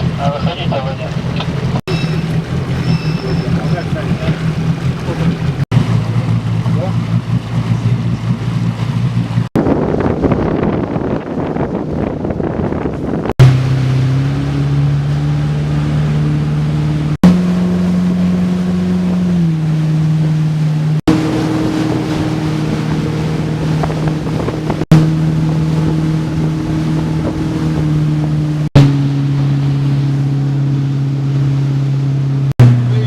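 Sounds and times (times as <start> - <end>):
motorboat engine droning: 0.0 - 33.0
water noise: 0.0 - 33.0
wind: 0.0 - 33.0.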